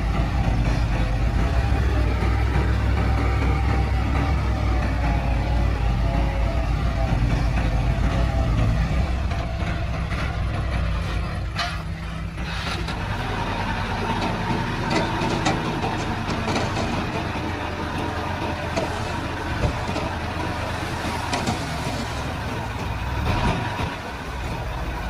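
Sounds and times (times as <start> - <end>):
bulldozer diesel engine running: 0.0 - 25.0
metallic track clanks: 0.0 - 25.0.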